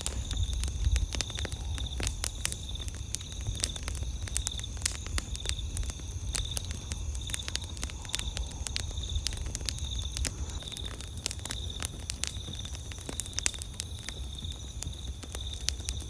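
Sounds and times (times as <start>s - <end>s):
campfire crackling and popping: 0.0s - 16.0s
night insects chirping: 0.0s - 16.0s.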